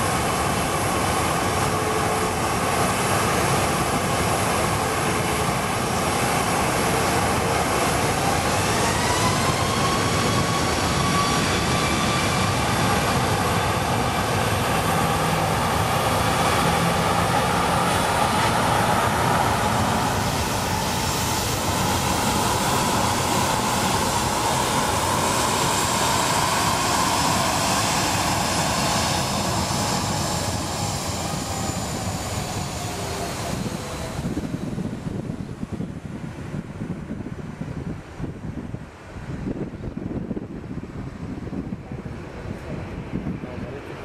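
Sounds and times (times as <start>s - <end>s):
jet engines whining: 0.0s - 36.6s.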